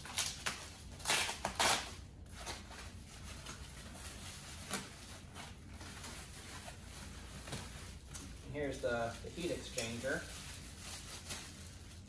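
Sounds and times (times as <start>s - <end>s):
packing paper rustling: 0.0s - 12.0s.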